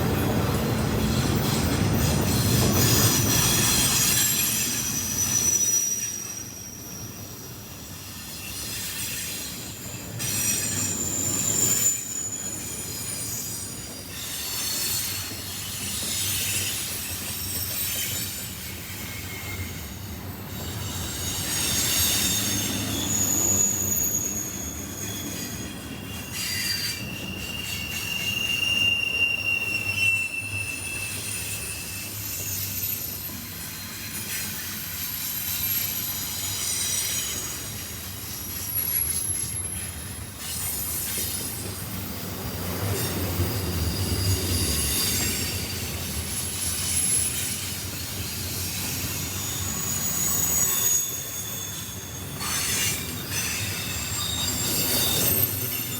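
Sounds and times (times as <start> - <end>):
low rumble of train: 0.0 - 55.9
train wheels squealing on rail: 0.0 - 55.9.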